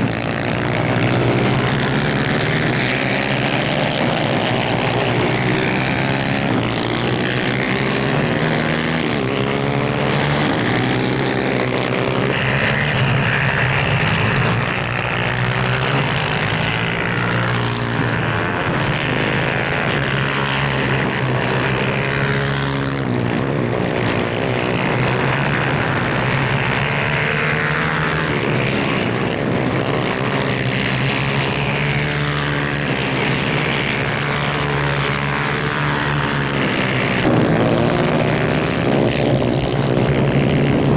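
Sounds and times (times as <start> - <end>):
kart engines revving: 0.0 - 40.9.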